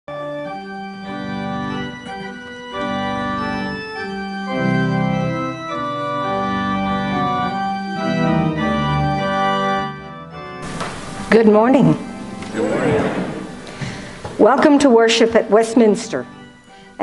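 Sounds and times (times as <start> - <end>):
organ playing held chords: 0.1 - 17.0.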